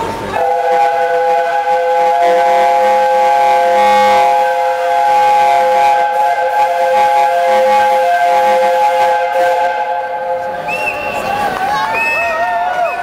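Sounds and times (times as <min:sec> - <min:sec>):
steam locomotive whistle: 0:00.3 - 0:13.0.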